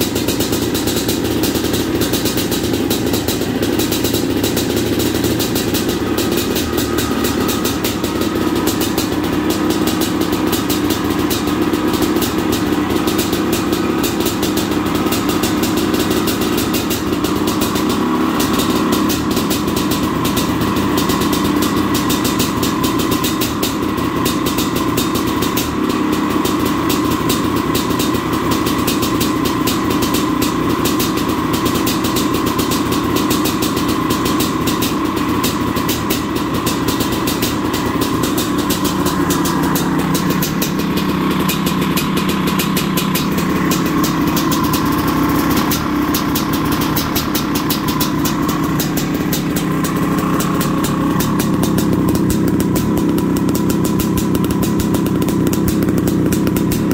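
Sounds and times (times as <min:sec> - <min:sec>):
two-stroke engine idling: 0:00.0 - 0:56.9.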